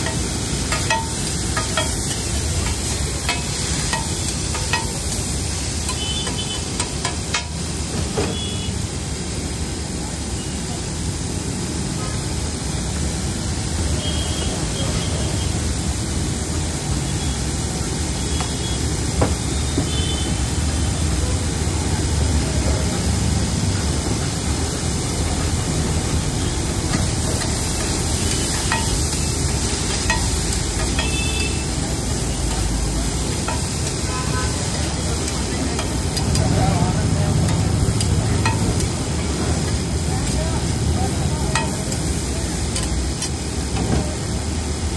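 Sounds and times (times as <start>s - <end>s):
vegetables sizzling on griddle: 0.0s - 44.9s.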